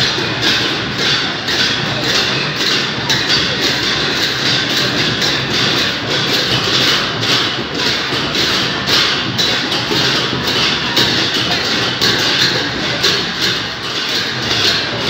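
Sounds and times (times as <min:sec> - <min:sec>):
large street crowd din: 0:00.0 - 0:15.0.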